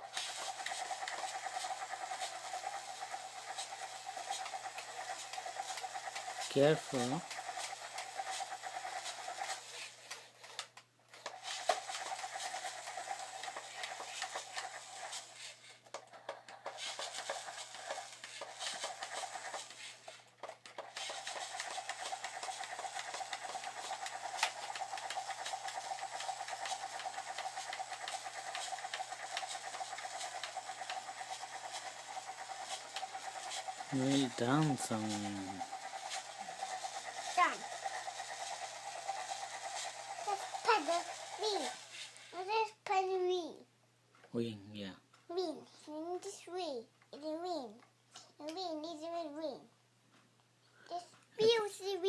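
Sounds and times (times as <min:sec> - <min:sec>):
fast rattling clatter: 0:00.0 - 0:10.6, 0:11.2 - 0:42.3
toy helicopter motor whirring: 0:00.0 - 0:43.3, 0:45.3 - 0:49.6, 0:50.8 - 0:52.0.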